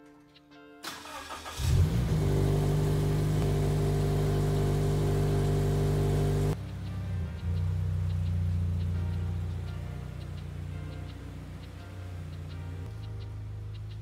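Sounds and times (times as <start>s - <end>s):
car engine starting and idling: 0.8s - 14.0s.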